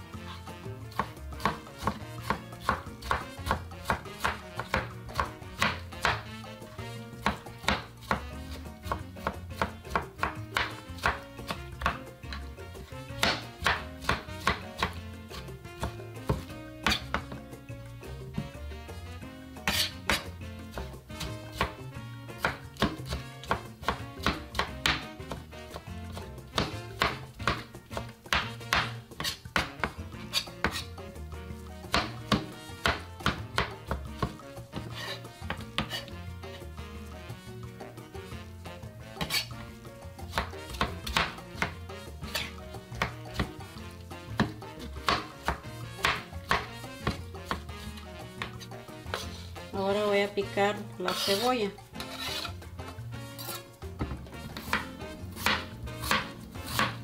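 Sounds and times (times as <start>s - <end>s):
background music: 0.0s - 57.0s
knife chopping on cutting board: 0.9s - 6.4s, 7.2s - 17.5s, 18.3s - 18.9s, 19.6s - 31.1s, 31.8s - 36.2s, 39.0s - 50.0s, 51.0s - 57.0s.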